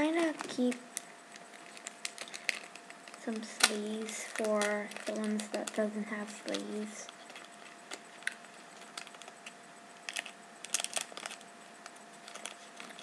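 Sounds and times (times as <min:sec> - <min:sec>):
plastic sleeve crinkling: 0:00.0 - 0:13.0.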